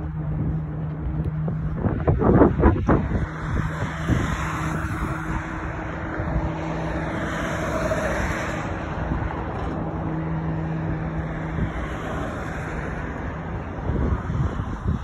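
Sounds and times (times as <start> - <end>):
low vehicle engine hum: 0.0 - 15.0
traffic noise: 0.0 - 15.0
wind on microphone: 0.0 - 15.0.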